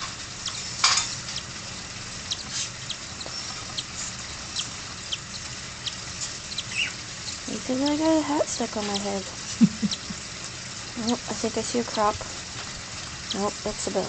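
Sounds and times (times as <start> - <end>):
chicks peeping: 0.0 - 13.9.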